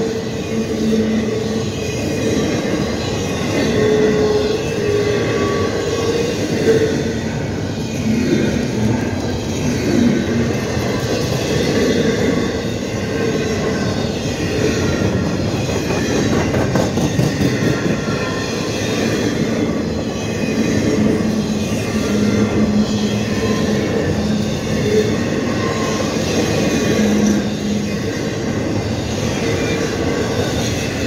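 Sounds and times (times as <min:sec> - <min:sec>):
freight train wheels rumbling: 0:00.0 - 0:31.0
wheel squeal: 0:00.0 - 0:31.0.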